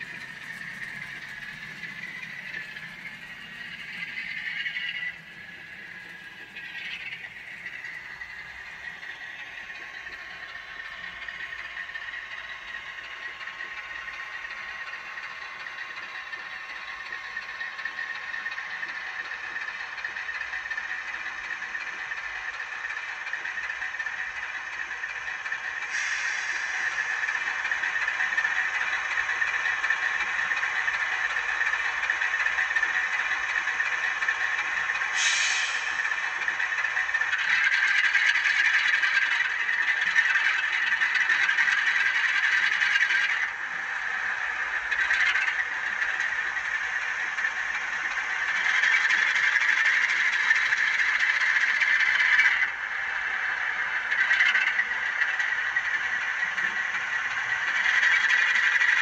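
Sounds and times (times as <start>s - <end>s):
diesel engine sound from small speaker: 0.0s - 59.0s.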